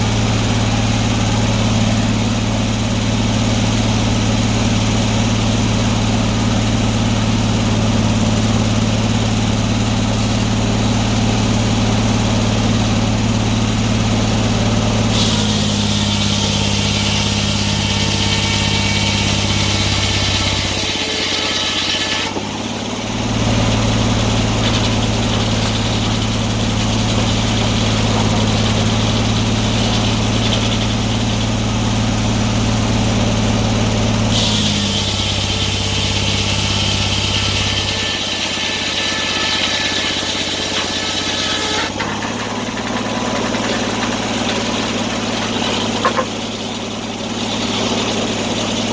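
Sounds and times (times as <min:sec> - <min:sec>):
saw cutting with rushing noise: 0:00.0 - 0:48.9
sawmill engine running: 0:00.0 - 0:48.9.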